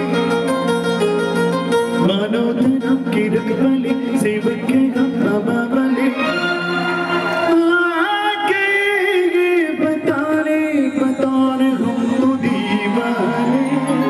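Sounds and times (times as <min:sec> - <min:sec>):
keyboard accompaniment: 0:00.0 - 0:14.0
man singing into microphone: 0:01.9 - 0:14.0.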